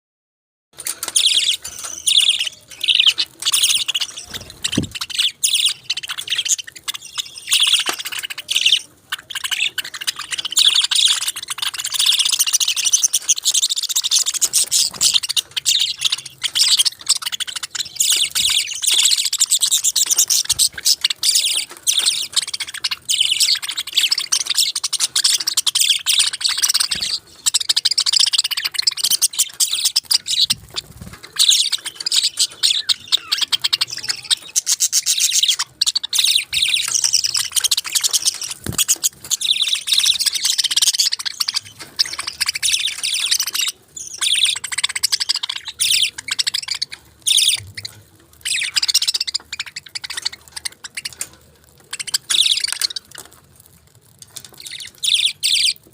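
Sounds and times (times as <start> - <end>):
parakeets chirping: 0.8 - 55.9.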